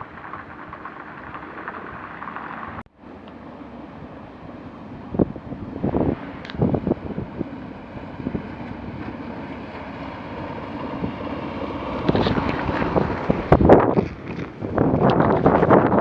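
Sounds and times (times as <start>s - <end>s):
wind buffeting microphone: 0.0s - 2.8s, 3.9s - 16.0s
boat motor running: 0.0s - 16.0s.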